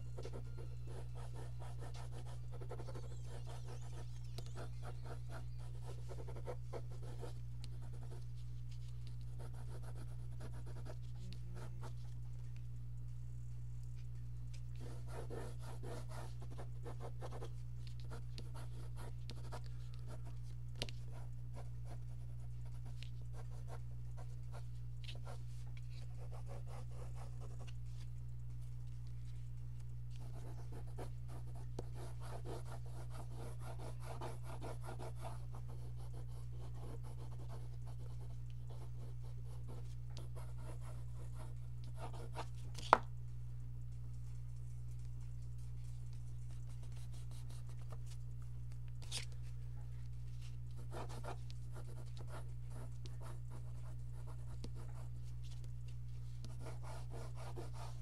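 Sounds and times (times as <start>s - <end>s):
steady low hum: 0.0s - 58.0s
pencil scratching on paper: 0.1s - 12.2s, 14.7s - 28.1s, 30.1s - 43.0s, 45.8s - 48.2s, 50.3s - 58.0s.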